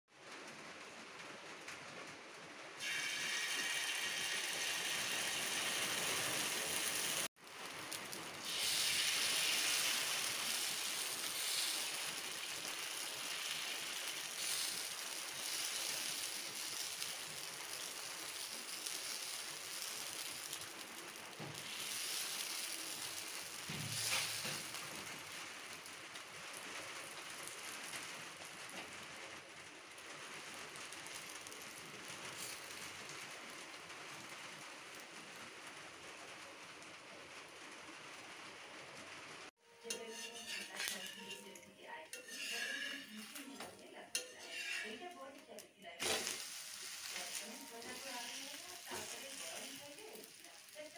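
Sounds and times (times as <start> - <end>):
batter sizzling on a hot griddle: 2.8 - 50.9.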